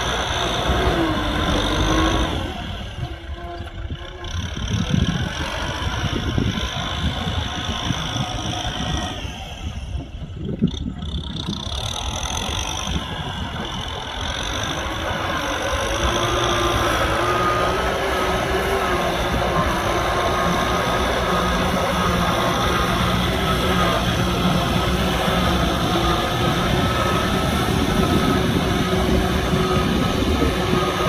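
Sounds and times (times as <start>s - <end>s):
tractor diesel engine running: 0.0s - 31.0s
steady whine: 5.9s - 31.0s.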